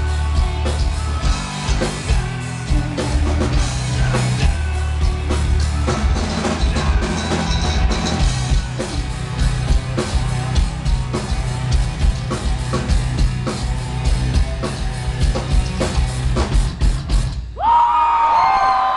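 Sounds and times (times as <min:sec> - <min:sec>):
rapid drum hits: 0:00.0 - 0:17.4
metal band playing live: 0:00.0 - 0:17.5.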